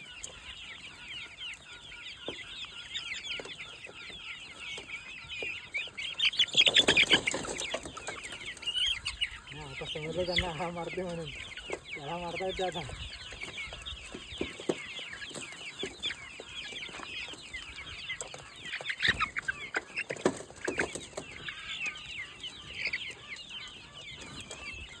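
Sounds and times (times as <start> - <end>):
chickens cheeping and clucking: 0.0 - 25.0.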